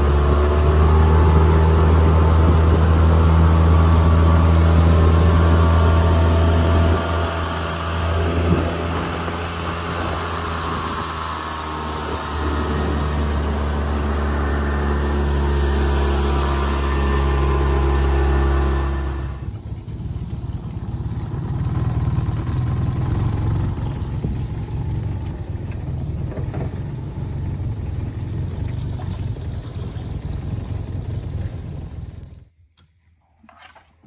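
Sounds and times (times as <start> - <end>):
boat rumble underway: 0.0 - 32.6
outboard motor running: 0.0 - 32.6.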